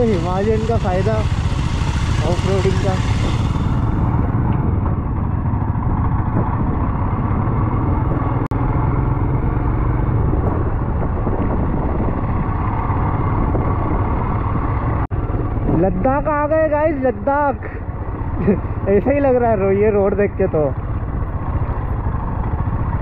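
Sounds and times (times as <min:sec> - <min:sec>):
motorcycle engine rumble: 0:00.0 - 0:23.0
road noise: 0:00.0 - 0:23.0.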